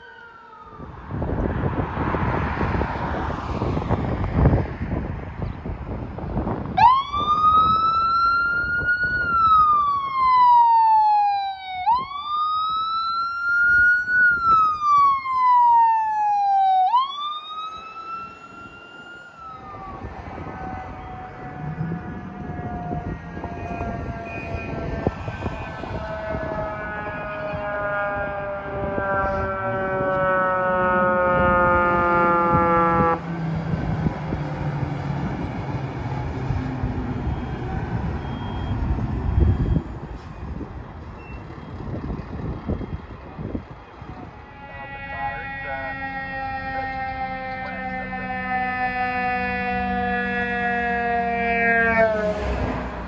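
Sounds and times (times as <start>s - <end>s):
fire engine siren winding down: 0.0s - 5.0s, 5.8s - 53.0s
ambulance siren wailing: 0.0s - 5.2s, 5.9s - 40.7s, 41.6s - 53.0s.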